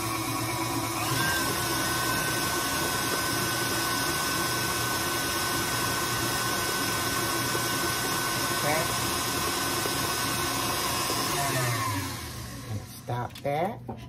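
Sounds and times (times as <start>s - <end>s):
mixer motor high whine: 0.0s - 13.0s
stand mixer running: 0.0s - 13.1s.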